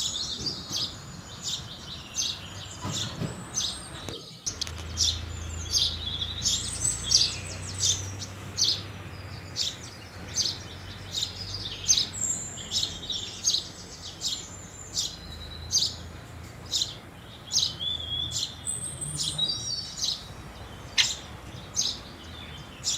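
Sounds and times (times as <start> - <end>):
sparrows chirping: 0.0 - 22.9.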